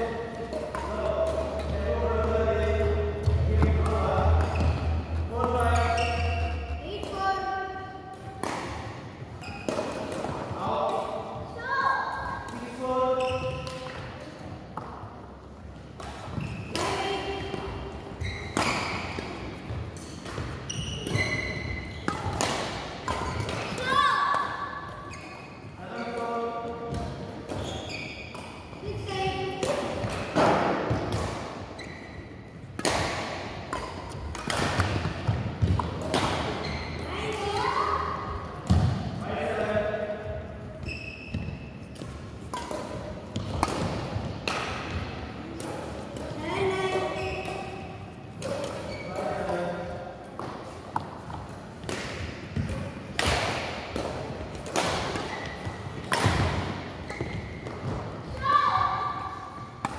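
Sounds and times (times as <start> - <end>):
racket hitting shuttlecock: 0.0 - 7.3, 8.1 - 11.4, 15.9 - 25.4, 26.9 - 39.2, 40.8 - 59.9
shoes squeaking on court floor: 0.3 - 7.3, 9.2 - 10.7, 13.0 - 32.6, 33.7 - 39.0, 40.6 - 44.3, 44.9 - 52.9, 54.2 - 59.8.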